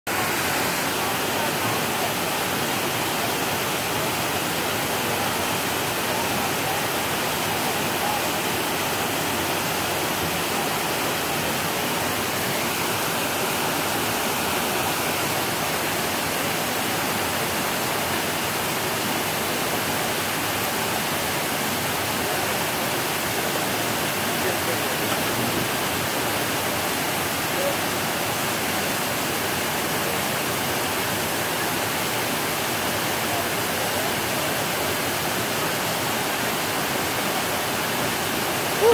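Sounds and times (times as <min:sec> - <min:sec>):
waterfall rushing over rocks: 0:00.1 - 0:38.9.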